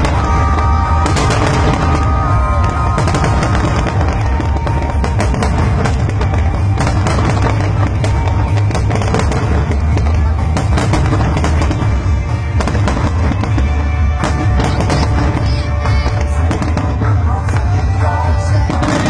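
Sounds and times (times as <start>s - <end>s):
fireworks cracks and bangs: 0.0s - 19.0s
loud music with low bass: 0.0s - 19.0s.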